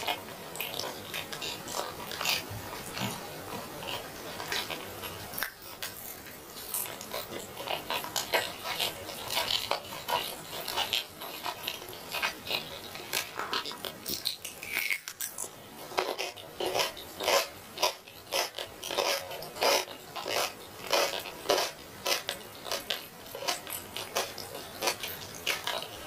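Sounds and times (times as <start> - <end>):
person chewing with lip-smacking: 0.0 - 26.0.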